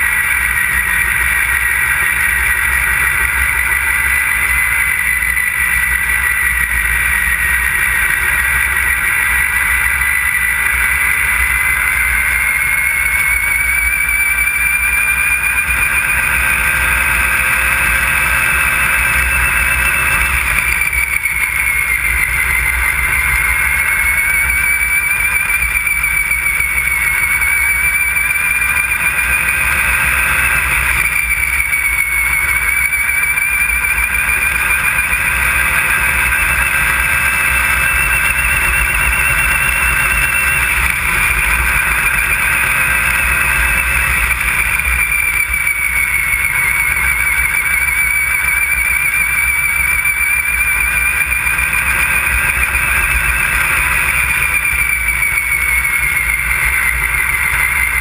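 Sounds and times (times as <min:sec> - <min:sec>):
snowmobile engine whining: 0:00.0 - 0:58.0.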